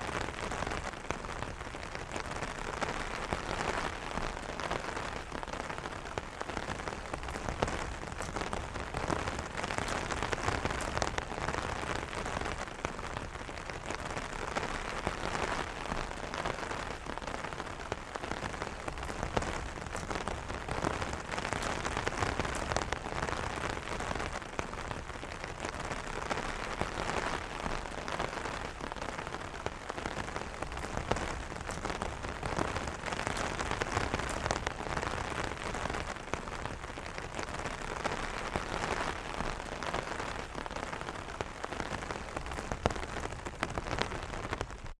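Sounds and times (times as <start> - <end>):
rain pattering on umbrella: 0.0 - 44.9.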